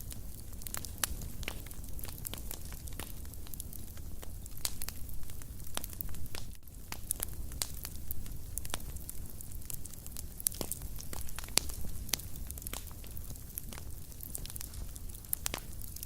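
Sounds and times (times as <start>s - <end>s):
fire pops and snaps: 0.0s - 16.0s
low rumble of flames: 0.0s - 16.0s
wood fire crackling: 0.0s - 16.0s.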